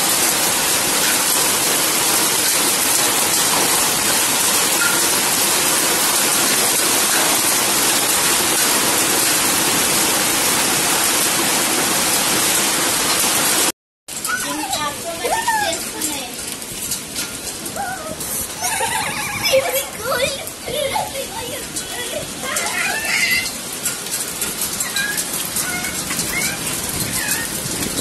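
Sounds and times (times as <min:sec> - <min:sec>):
heavy rain and hail: 0:00.0 - 0:28.0.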